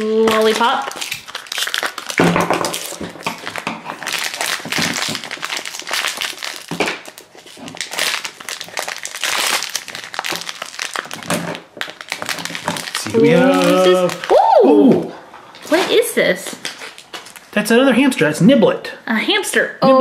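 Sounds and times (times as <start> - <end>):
plastic wrapper crinkling: 0.0 - 14.4, 15.5 - 17.6.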